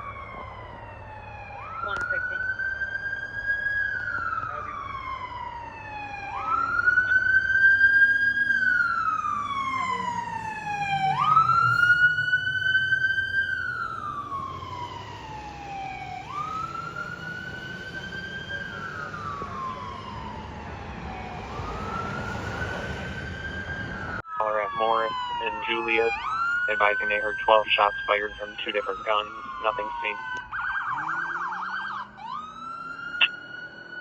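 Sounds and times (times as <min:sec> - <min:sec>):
fire engine siren wailing: 0:00.0 - 0:34.0.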